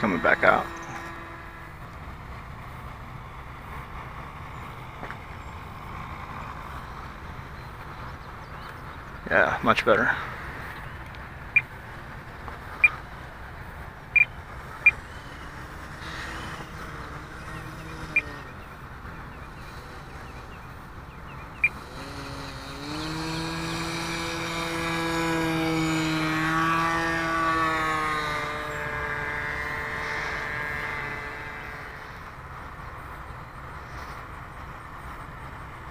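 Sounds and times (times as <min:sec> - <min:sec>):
model airplane engine droning: 0:00.0 - 0:35.9.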